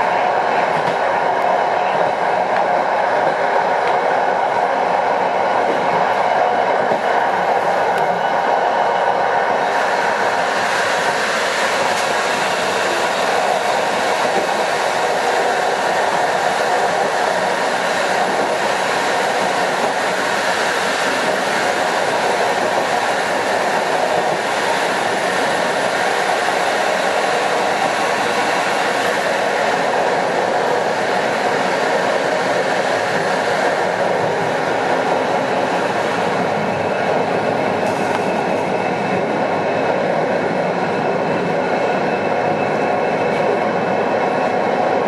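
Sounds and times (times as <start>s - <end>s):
train rolling over rails: 0.0s - 45.0s.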